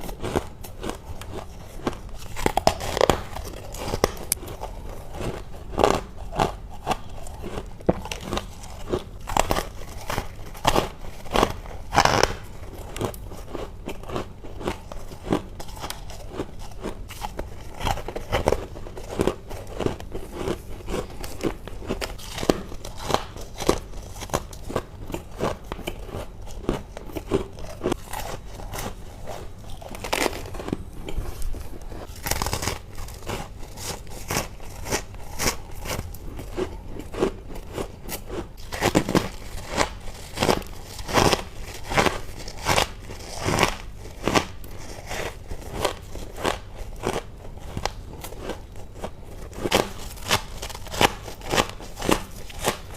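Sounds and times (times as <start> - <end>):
biting and crunching frost: 0.0 - 52.9.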